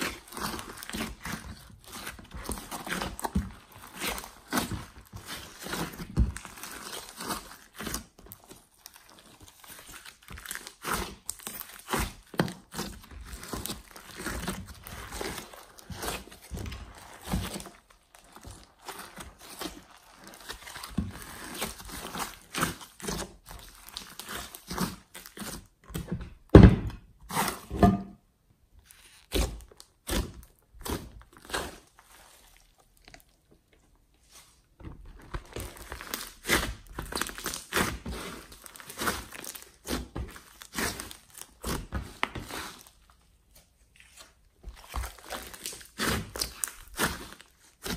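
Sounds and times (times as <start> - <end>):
slime squishing and popping: 0.0 - 28.0, 35.1 - 43.0, 44.7 - 47.9.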